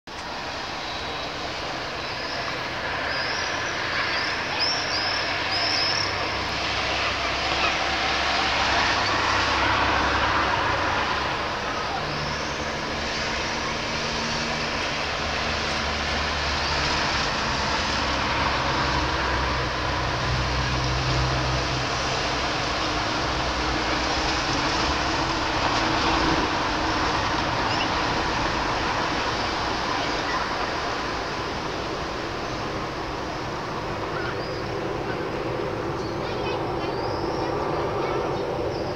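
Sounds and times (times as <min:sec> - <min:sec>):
distant city and engine rumble: 0:00.1 - 0:38.9.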